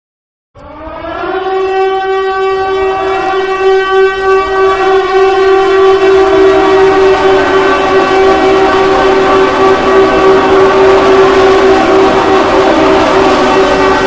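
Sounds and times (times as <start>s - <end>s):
alert alarm tone: 0.6s - 14.0s.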